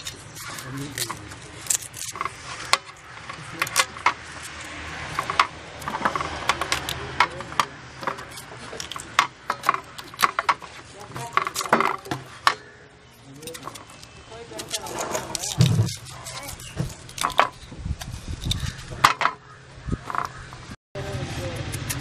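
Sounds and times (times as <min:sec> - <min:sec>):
knives cutting mangoes: 0:00.0 - 0:19.0, 0:21.0 - 0:22.0.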